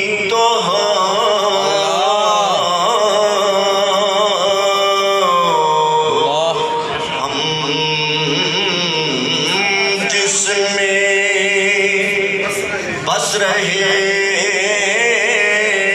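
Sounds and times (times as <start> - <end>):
man chanting: 0.0 - 15.9.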